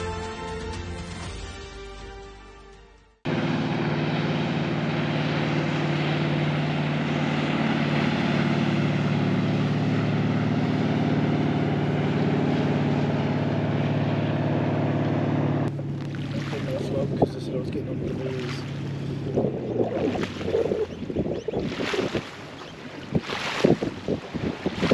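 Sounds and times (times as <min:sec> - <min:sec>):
engine running steadily: 0:03.3 - 0:24.9.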